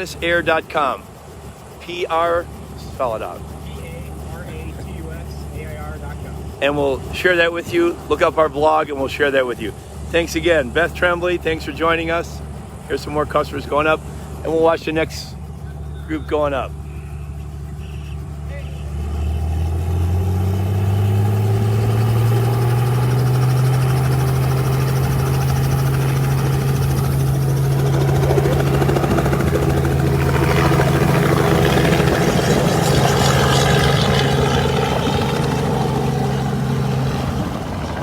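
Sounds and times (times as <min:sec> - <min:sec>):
helicopter engine and rotor hum: 0:00.0 - 0:38.0.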